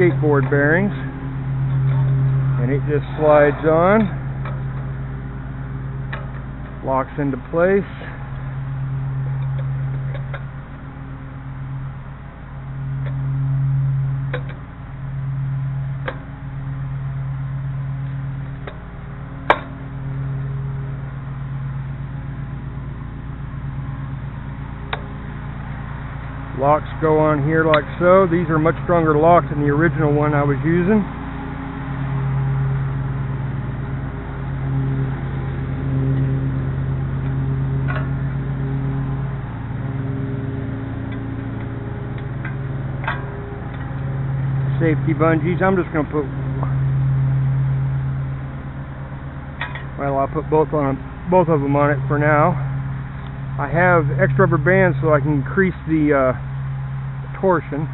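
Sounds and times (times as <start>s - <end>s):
engine droning: 0.0s - 57.9s
steady low hum: 0.0s - 57.9s.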